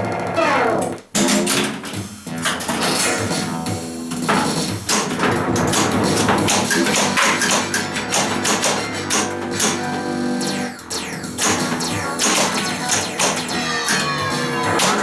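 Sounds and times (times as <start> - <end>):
electronic game music: 0.0 - 15.0
pinball ball and flipper clacks: 0.0 - 15.0.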